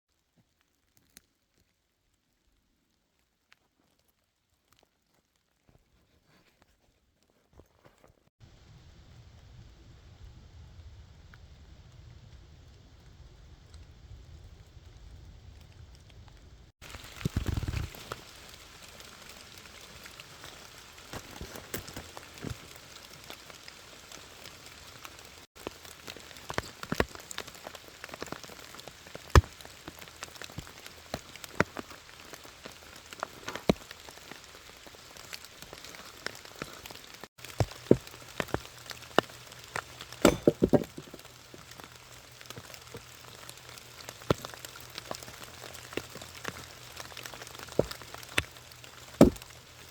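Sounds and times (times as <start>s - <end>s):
steady rain falling: 8.5s - 49.9s.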